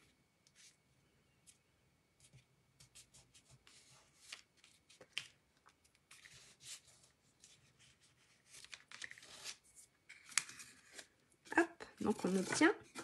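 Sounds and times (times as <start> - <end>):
hands rustling on cardstock: 2.2 - 13.0.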